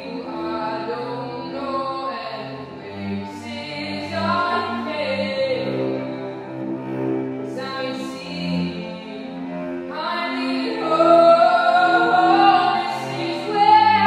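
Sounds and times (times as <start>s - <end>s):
bowed cello: 0.0s - 14.0s.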